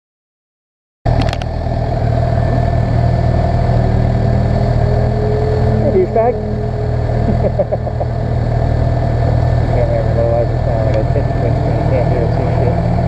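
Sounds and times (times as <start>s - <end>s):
motorcycle engines idling: 1.1s - 13.0s.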